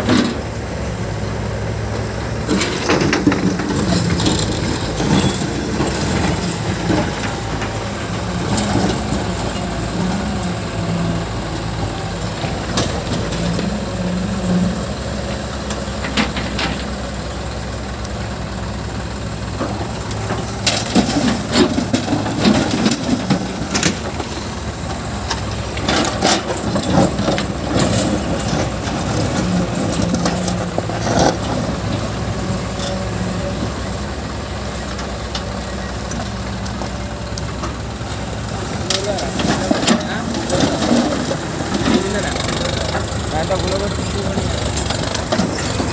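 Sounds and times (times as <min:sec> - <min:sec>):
diesel engine running: 0:00.0 - 0:45.9
digger clanks and crunches: 0:00.0 - 0:45.9.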